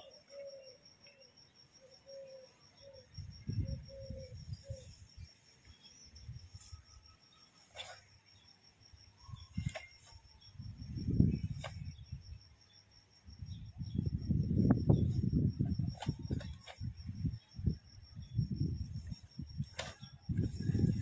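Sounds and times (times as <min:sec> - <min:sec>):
insect chirping trill: 0:00.0 - 0:21.0.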